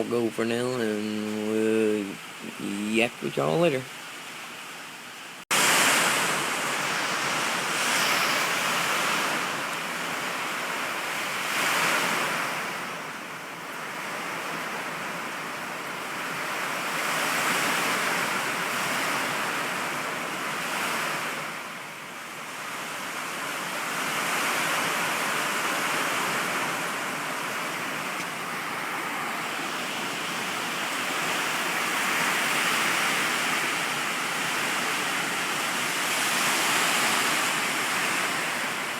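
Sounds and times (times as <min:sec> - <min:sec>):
heavy rain: 0:00.0 - 0:38.9
gusting wind: 0:03.9 - 0:38.9.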